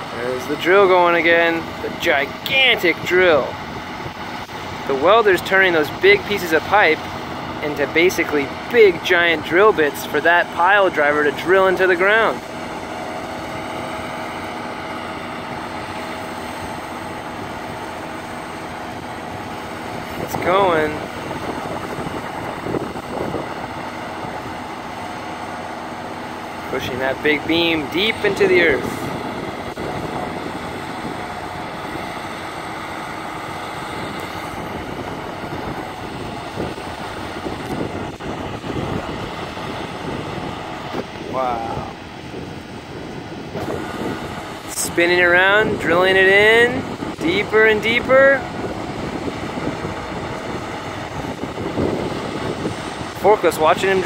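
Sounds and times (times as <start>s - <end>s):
drilling rig droning: 0.0s - 54.0s.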